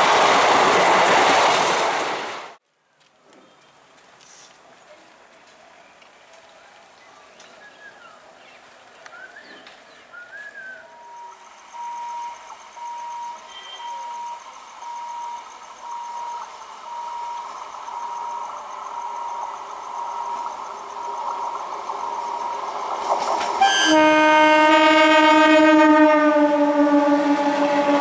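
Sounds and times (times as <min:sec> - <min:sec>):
train rumble: 0:00.0 - 0:02.6, 0:03.2 - 0:28.0.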